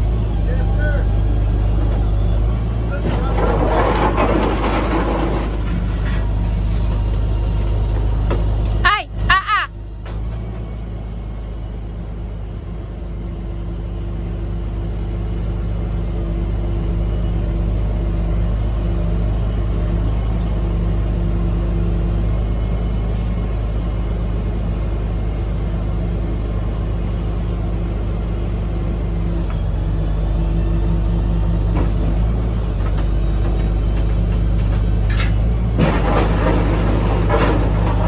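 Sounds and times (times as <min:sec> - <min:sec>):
constant hums: 0:00.0 - 0:38.0
vehicle rumble: 0:00.0 - 0:38.0.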